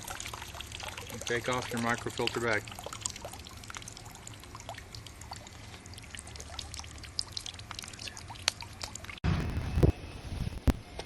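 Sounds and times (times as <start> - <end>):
water trickling and dripping: 0.0 - 10.8.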